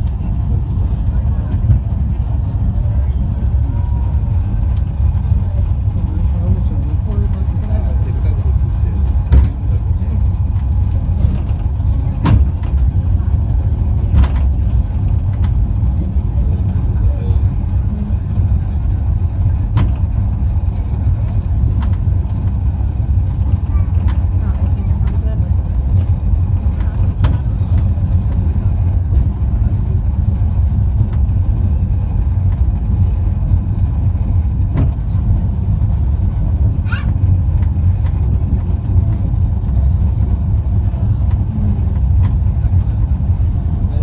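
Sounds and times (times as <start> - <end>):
cable car rumbling: 0.0 - 44.0.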